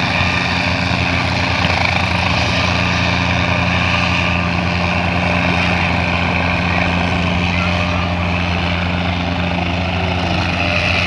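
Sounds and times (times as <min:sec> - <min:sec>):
propeller aircraft engine running: 0:00.0 - 0:11.0.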